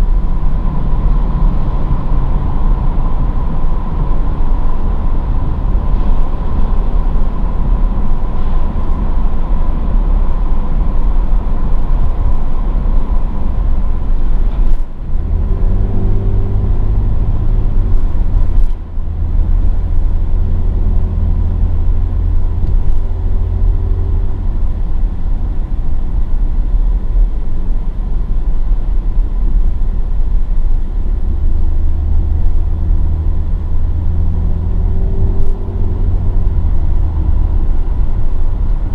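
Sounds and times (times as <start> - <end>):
car engine low rumble: 0.0 - 38.9
road noise: 0.0 - 38.9.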